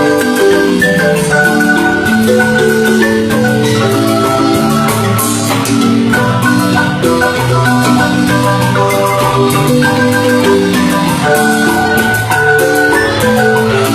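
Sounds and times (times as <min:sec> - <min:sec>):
marimba music: 0:00.0 - 0:13.9.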